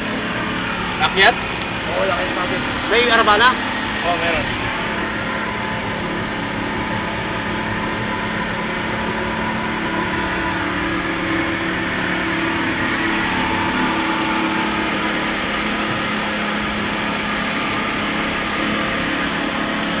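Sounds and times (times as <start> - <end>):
outboard motors droning: 0.0 - 20.0.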